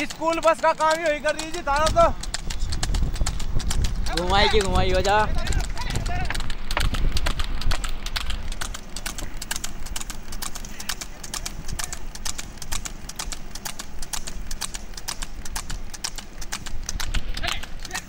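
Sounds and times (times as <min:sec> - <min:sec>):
hooves on asphalt: 0:00.0 - 0:18.0.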